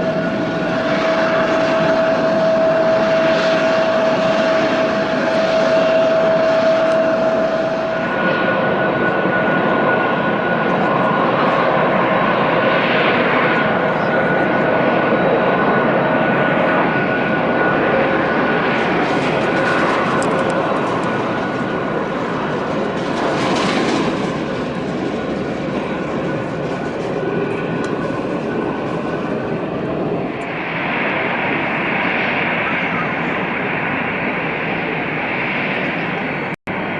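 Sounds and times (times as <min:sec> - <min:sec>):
jet engines whining: 0:00.0 - 0:36.9.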